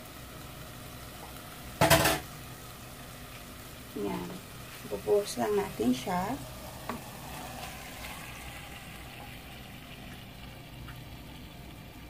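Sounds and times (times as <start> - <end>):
pot sizzling and bubbling: 0.0 - 12.0.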